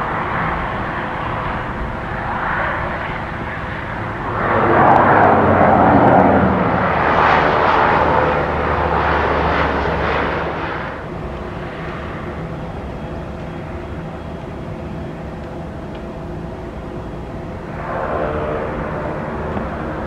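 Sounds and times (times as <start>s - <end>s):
propeller aircraft engines: 0.0s - 20.0s
steady low hum: 0.0s - 20.0s.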